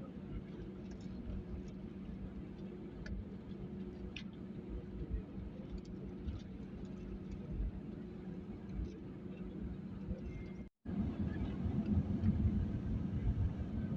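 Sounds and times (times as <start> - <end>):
aircraft cabin engine drone: 0.0 - 13.9
low hum: 0.0 - 13.9.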